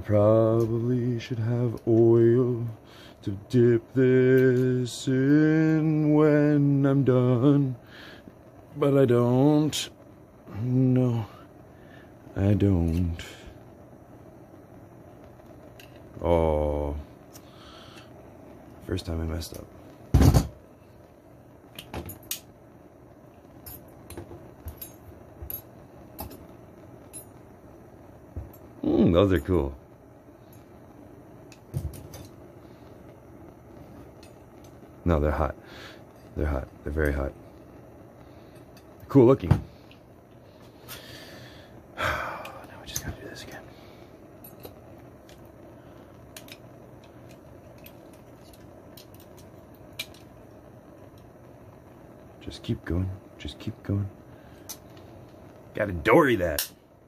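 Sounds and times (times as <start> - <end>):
hand torch burning: 0.0 - 57.0.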